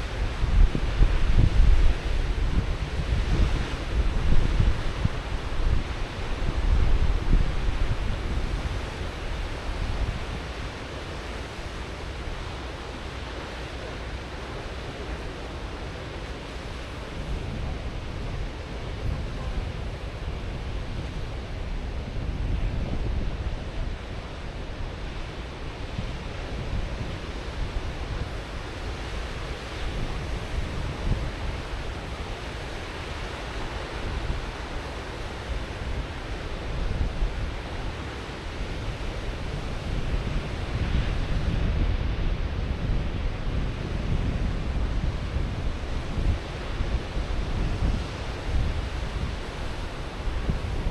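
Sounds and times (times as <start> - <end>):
ocean surf washing in: 0.0 - 50.9
wind rumbling on microphone: 0.0 - 50.9.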